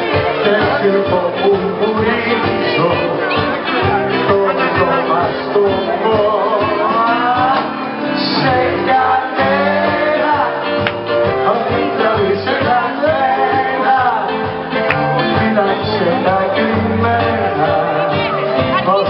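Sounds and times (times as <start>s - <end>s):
drums: 0.0s - 19.0s
electric guitar: 0.0s - 19.0s
man singing into a microphone: 0.0s - 19.0s.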